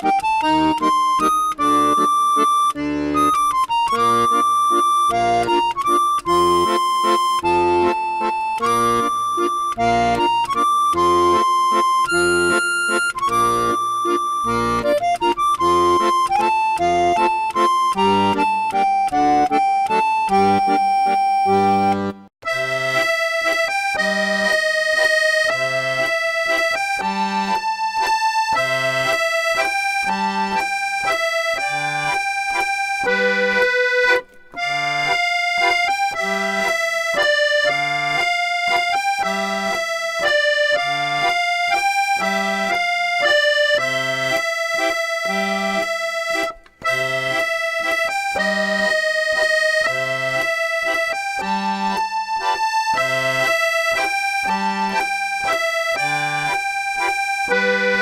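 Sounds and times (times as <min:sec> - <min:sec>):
accordion music: 0:00.0 - 0:58.0.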